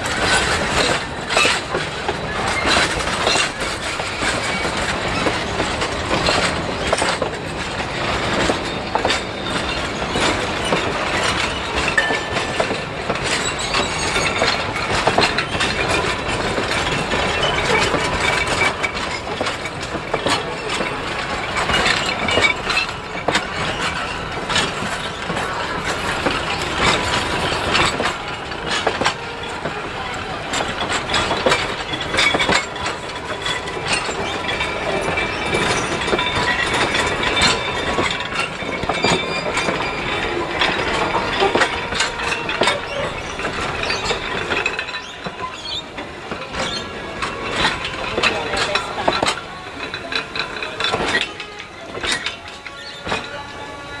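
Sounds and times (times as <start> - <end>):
train carriages rumbling: 0.0 - 54.0
wheels clicking on rails: 0.0 - 54.0.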